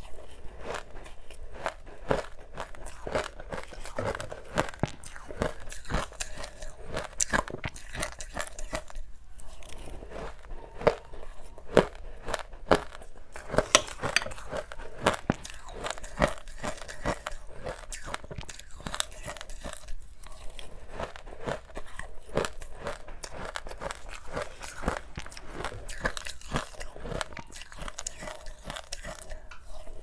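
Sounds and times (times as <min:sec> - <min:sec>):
chewing crunchy ice: 0:00.4 - 0:11.2, 0:16.0 - 0:30.0.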